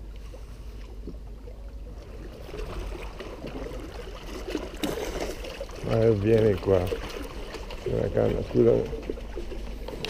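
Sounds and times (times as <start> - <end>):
fish splashing and thrashing: 0.0 - 10.0
water sloshing: 0.0 - 10.0.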